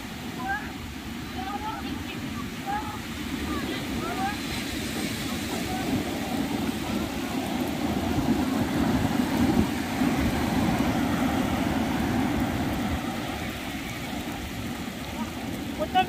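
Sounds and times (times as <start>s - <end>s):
waves breaking on beach: 0.0s - 16.0s.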